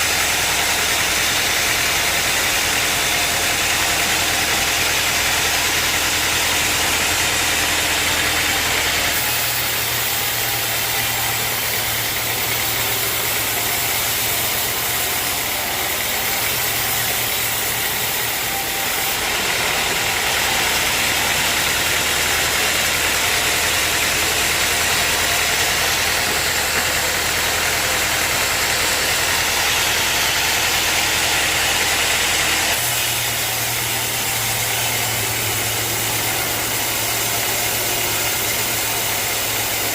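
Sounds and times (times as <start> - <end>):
machine drone: 0.0 - 39.9
saw hissing through wood: 0.0 - 39.9.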